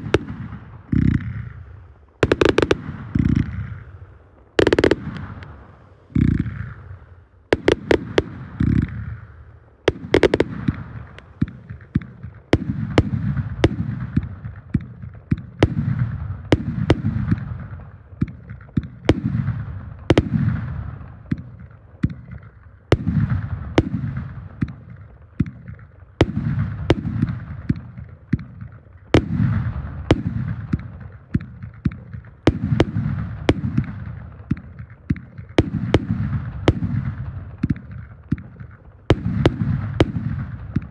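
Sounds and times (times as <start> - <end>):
fireworks banging and rumbling: 0.0 - 40.9.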